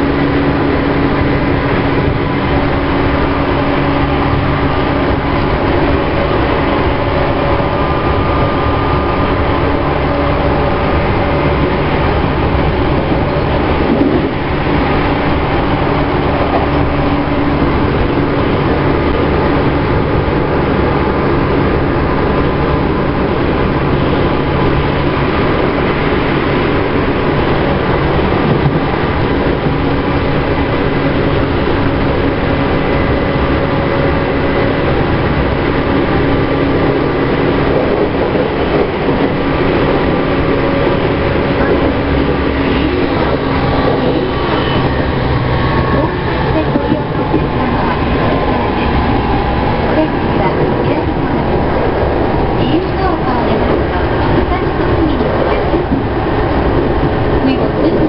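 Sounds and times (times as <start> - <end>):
steady humming tones: 0.0 - 58.0
train wheels rumbling on rail: 0.0 - 58.0.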